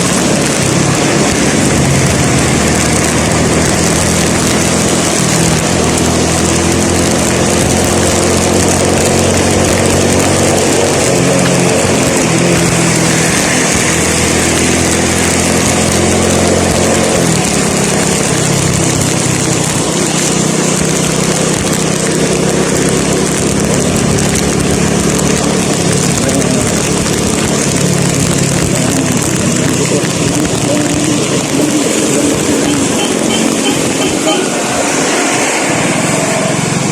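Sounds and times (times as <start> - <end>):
car engine running: 0.0 - 36.9
wind and road noise: 0.0 - 36.9.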